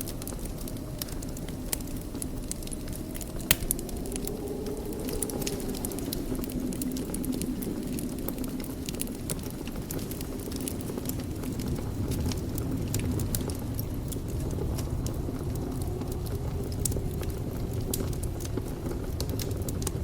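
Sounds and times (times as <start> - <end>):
fire crackling and popping: 0.0 - 20.0
wood fire flames rumbling: 0.0 - 20.0.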